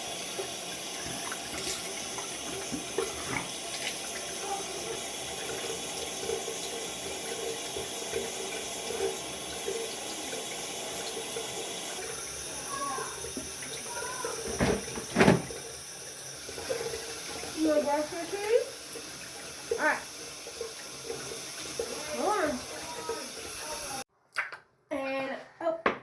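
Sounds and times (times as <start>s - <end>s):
tap water splashing into sink: 0.0s - 24.6s.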